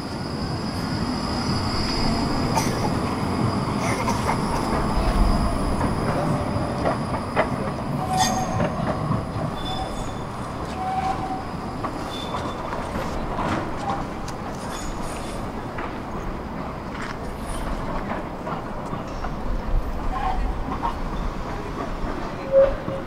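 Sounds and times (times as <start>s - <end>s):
tram rolling on rails: 0.0s - 23.0s
tram wheels squealing: 0.0s - 23.0s.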